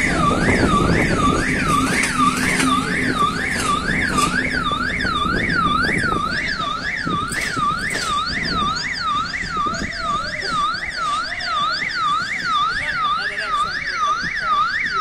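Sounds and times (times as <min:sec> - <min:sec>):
train rumbling: 0:00.0 - 0:12.1
electronic siren warbling: 0:00.0 - 0:15.0.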